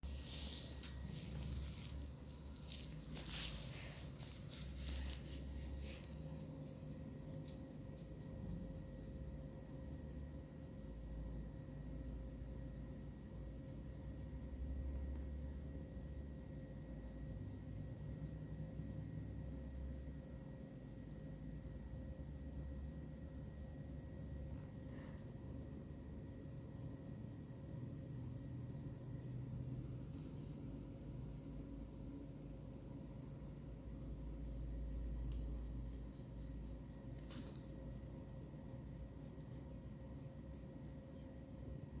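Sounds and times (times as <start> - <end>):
hands rubbing cat fur: 0.0 - 42.0.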